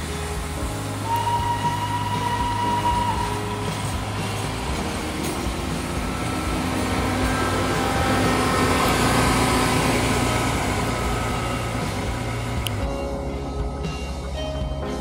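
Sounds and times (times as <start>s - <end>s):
diesel locomotive engine running: 0.0s - 15.0s
train coaches rolling on rails: 0.0s - 15.0s.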